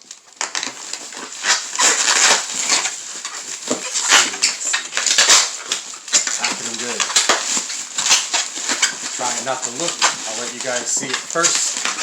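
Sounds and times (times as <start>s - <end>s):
cardboard box tearing: 0.0s - 12.0s
packing material rustling: 0.0s - 12.0s.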